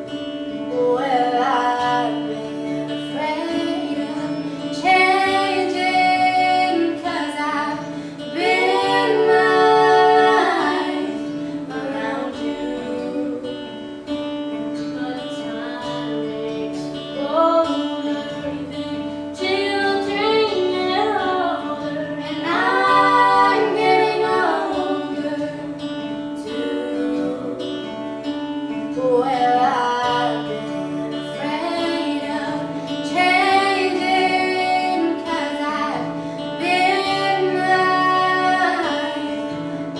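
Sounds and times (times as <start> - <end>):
plucked guitar: 0.0 - 39.9
woman singing: 0.0 - 39.9.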